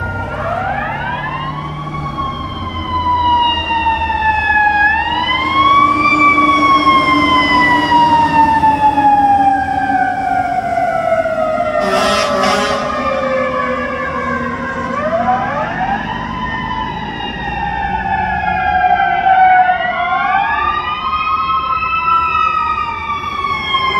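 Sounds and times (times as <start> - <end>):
fire engine siren wailing: 0.0 - 23.9.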